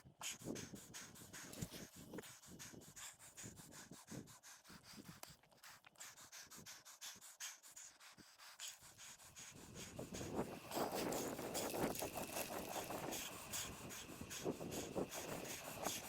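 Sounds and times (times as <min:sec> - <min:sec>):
cyclist breathing hard: 0:00.2 - 0:16.0.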